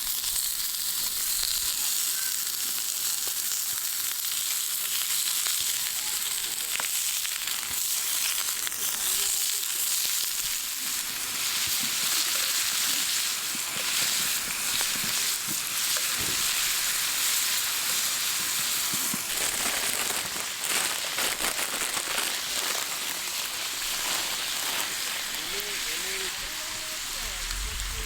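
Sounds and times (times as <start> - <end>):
food sizzling in a hot pan: 0.0 - 28.0.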